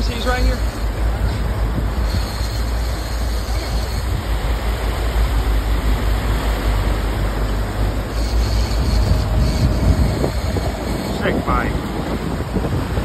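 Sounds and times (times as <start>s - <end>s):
boat engines low rumble: 0.0s - 13.0s
water churning in wake: 0.0s - 13.0s.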